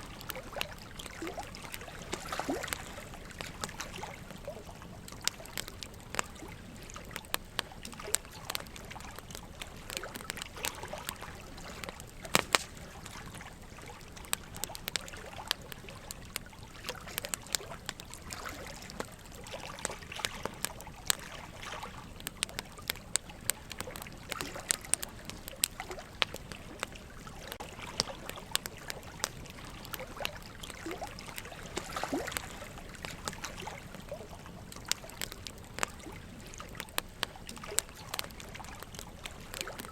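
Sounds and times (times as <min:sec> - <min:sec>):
logs crackling in fireplace: 0:00.0 - 0:39.9
running water trickling: 0:00.0 - 0:39.9.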